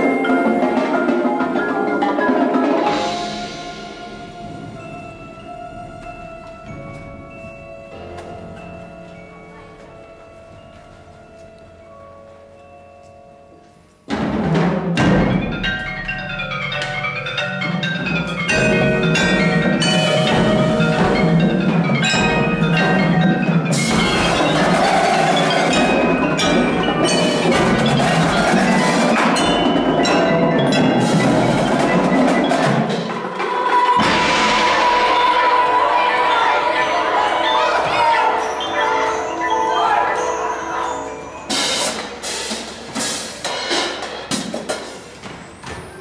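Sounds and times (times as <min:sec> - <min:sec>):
marimba and xylophone runs: 0:00.0 - 0:45.1
drums: 0:00.0 - 0:46.0
percussion ensemble playing: 0:00.0 - 0:46.0.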